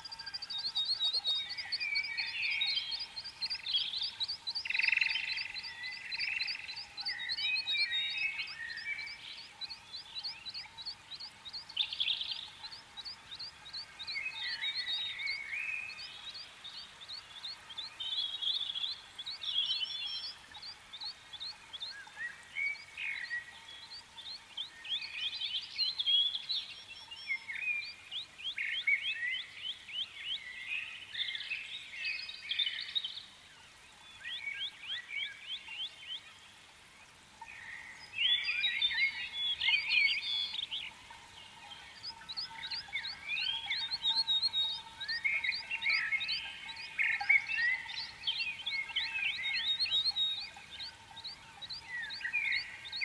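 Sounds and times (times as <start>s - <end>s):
birds chirping and calling: 0.0s - 31.4s, 37.4s - 53.0s.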